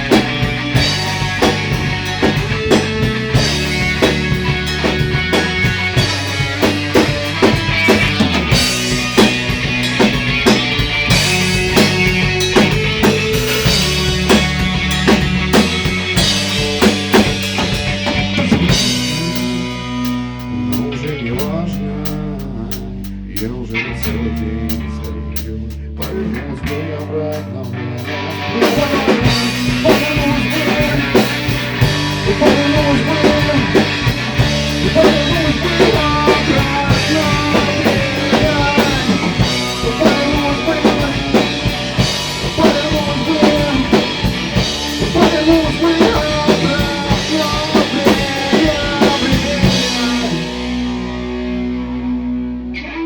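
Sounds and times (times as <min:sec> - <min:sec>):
drum kit: 0:00.0 - 0:52.4
rock band playing: 0:00.0 - 0:53.0.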